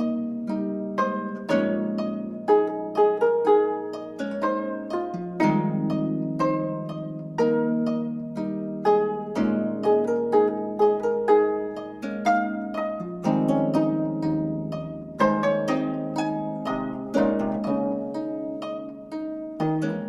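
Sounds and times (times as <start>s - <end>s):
plucked zither chords: 0.0s - 20.0s.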